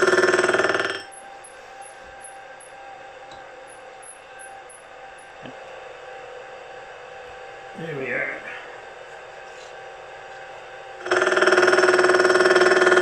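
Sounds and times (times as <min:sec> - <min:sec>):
milling machine spindle humming: 0:00.0 - 0:13.0.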